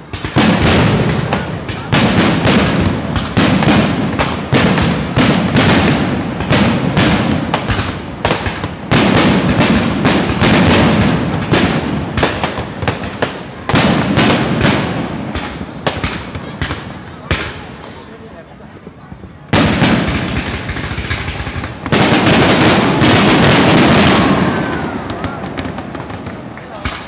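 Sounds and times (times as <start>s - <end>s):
fireworks bursting in sharp bangs: 0.0s - 27.0s.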